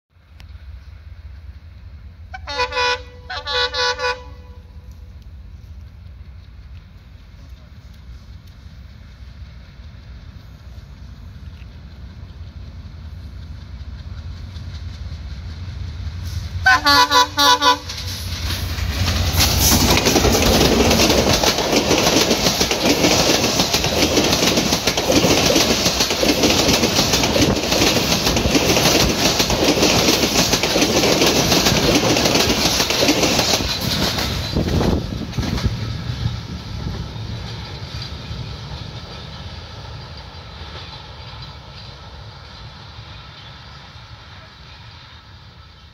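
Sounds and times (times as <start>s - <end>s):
train wheels clattering on rails: 4.7s - 43.4s.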